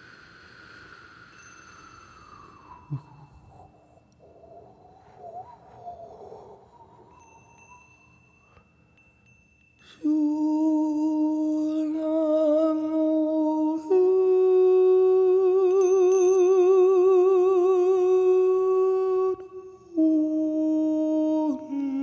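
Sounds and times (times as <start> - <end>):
person singing long held tones: 0.0 - 8.7, 9.8 - 22.0.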